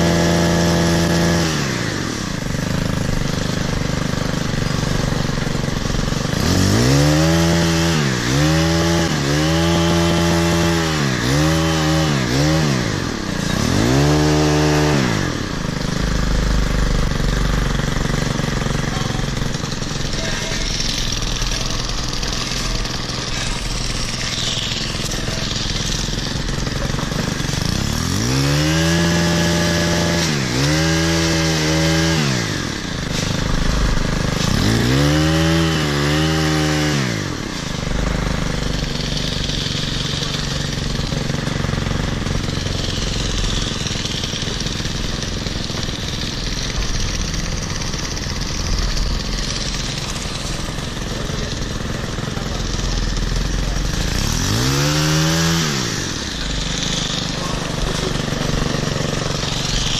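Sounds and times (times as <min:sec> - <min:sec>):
hedge trimmer engine revving: 0:00.0 - 0:59.9.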